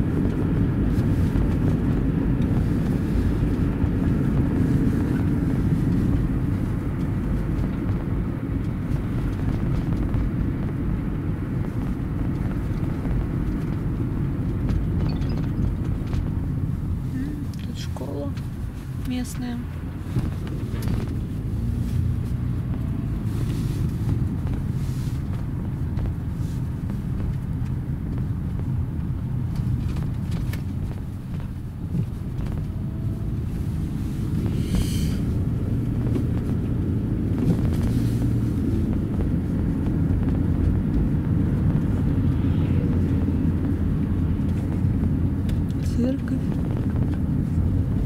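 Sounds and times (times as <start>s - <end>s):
car engine and tyre rumble: 0.0s - 48.0s.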